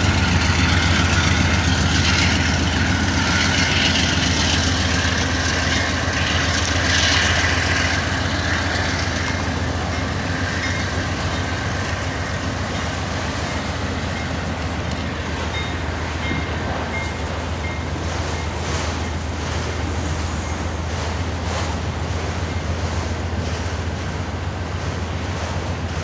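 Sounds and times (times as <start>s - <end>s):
diesel locomotive engine drone: 0.0s - 26.0s
train cars rolling on rails: 0.0s - 26.0s.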